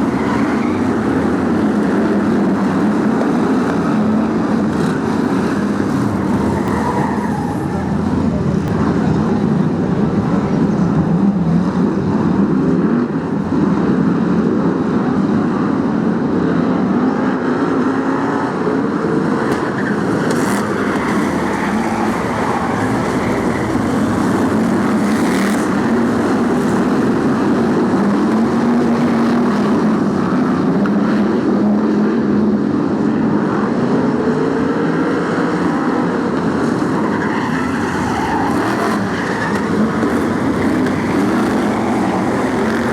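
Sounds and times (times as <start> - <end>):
racing car engines: 0.0 - 42.9.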